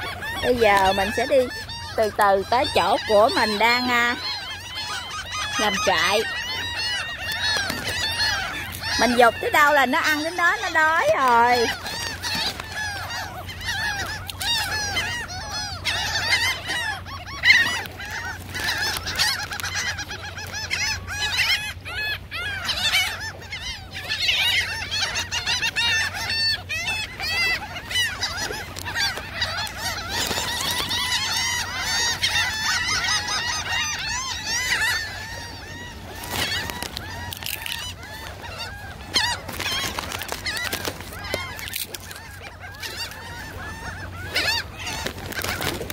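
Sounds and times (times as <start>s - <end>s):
gulls calling: 0.0s - 45.9s.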